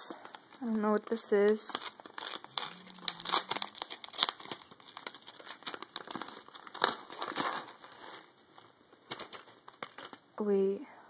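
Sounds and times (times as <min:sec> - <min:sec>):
paper packet crinkling: 0:00.1 - 0:10.3.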